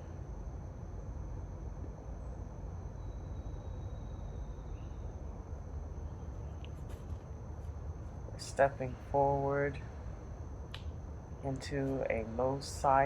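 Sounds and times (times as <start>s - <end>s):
low background noise: 0.0s - 13.0s
high-pitched insect trill: 2.1s - 13.0s.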